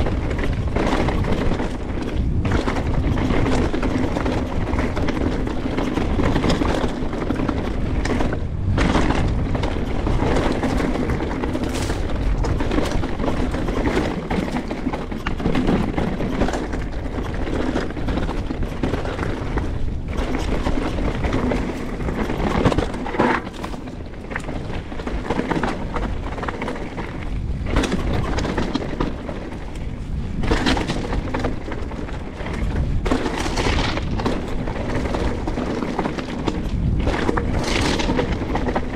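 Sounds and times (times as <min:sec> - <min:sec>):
bike rattling and knocking: 0:00.0 - 0:38.9
tyres rumbling over rock: 0:00.0 - 0:38.9.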